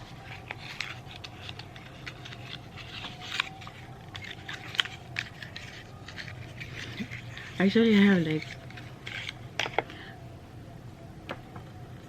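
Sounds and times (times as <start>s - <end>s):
packaging rustling: 0.0s - 9.9s
faint room hum: 0.0s - 12.0s.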